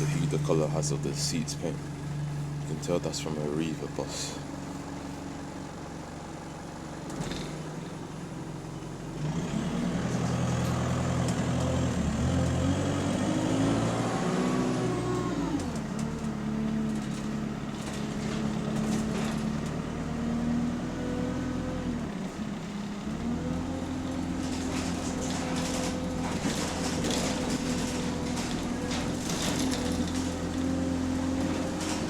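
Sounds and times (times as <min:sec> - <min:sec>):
bus diesel engine accelerating: 0:00.0 - 0:32.0.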